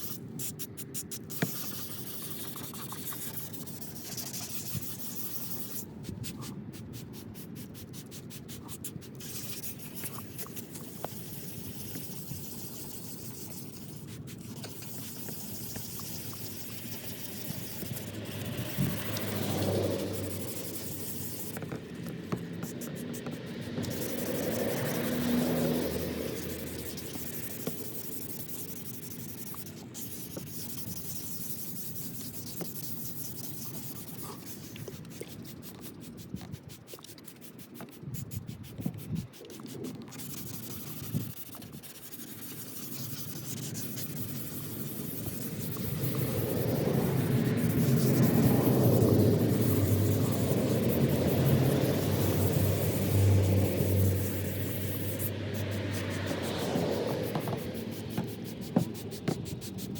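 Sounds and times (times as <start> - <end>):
sandpaper scraping plastic: 0.0 - 59.9.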